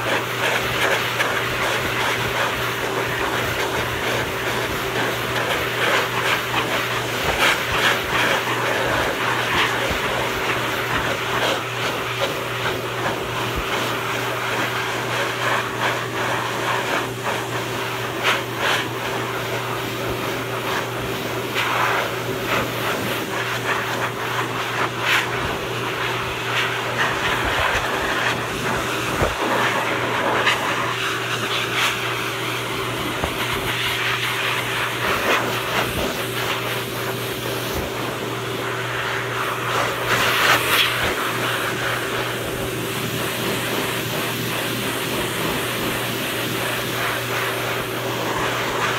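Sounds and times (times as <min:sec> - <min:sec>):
blow dryer motor hum: 0:00.0 - 0:48.9.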